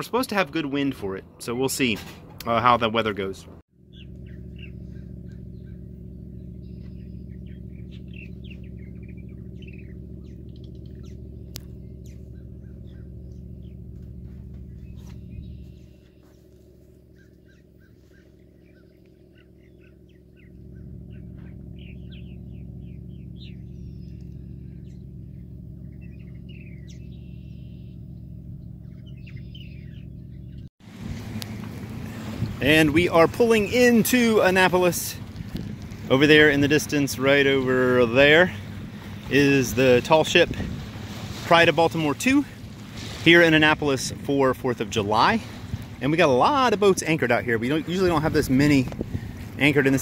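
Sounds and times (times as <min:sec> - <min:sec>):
birds chirping: 0:00.0 - 0:50.0
steady low hum: 0:00.4 - 0:50.0.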